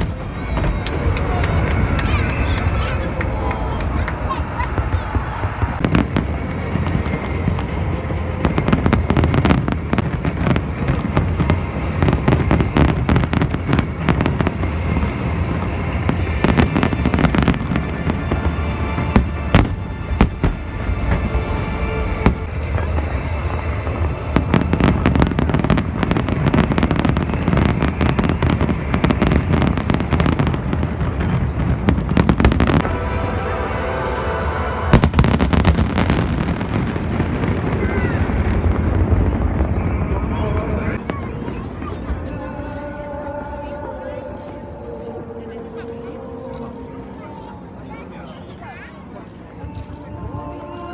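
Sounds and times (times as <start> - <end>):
fireworks bangs and crackles: 0.0 - 33.7, 34.5 - 43.4
low rumble: 0.0 - 41.1
music playing: 0.0 - 50.9.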